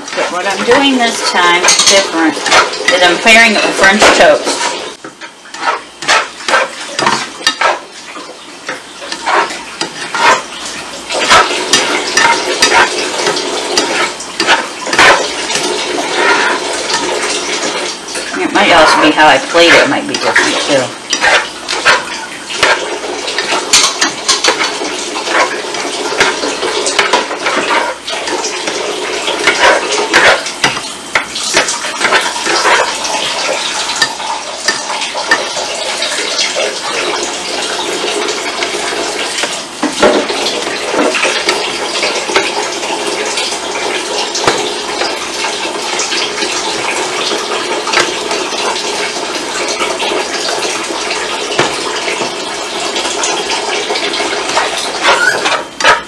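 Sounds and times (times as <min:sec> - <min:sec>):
food sizzling in oil: 0:00.0 - 0:56.0
utensil scraping a pan: 0:00.0 - 0:56.0.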